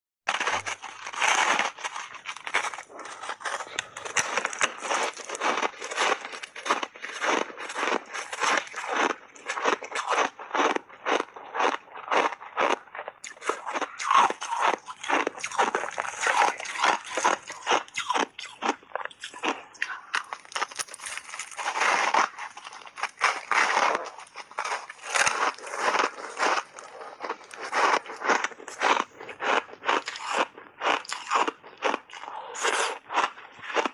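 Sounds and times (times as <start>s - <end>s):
crunching and chewing ice: 0.3s - 33.9s.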